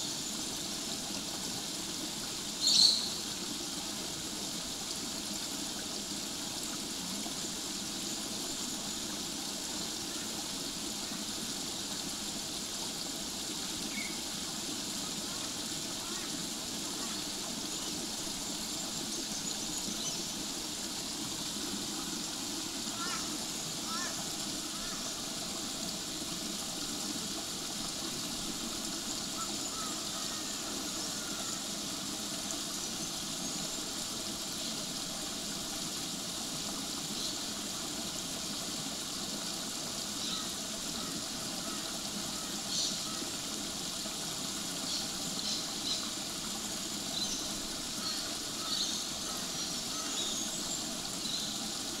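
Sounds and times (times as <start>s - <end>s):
water running over rocks: 0.0s - 52.0s.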